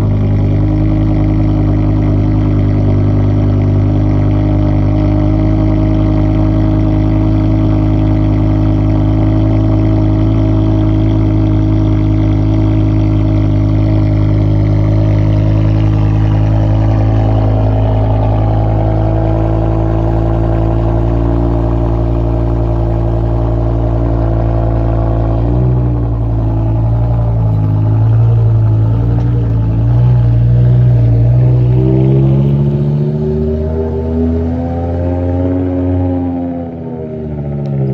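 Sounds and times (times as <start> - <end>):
car engine fast idle: 0.0 - 31.8.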